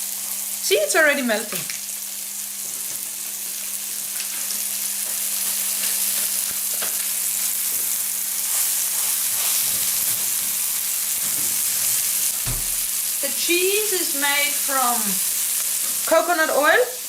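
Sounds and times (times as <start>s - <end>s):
patties sizzling in frying pan: 0.0s - 17.0s.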